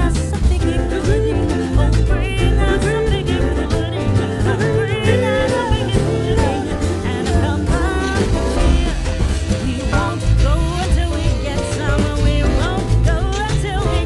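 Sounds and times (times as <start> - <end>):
pop song with sung vocal: 0.0 - 14.0.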